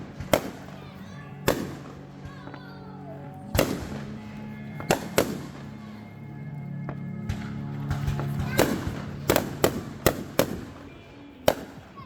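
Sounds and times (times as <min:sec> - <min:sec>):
fireworks exploding: 0:00.0 - 0:12.0
music playing: 0:00.0 - 0:12.0.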